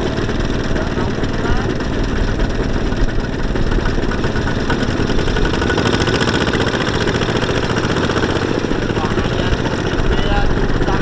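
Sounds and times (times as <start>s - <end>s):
diesel engines chugging: 0.0s - 11.0s.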